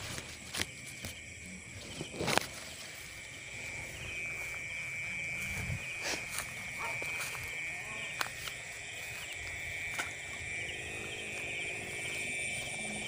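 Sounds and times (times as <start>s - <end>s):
night insects trilling: 0.0s - 13.0s
rustling through leaves and grass: 0.0s - 13.0s.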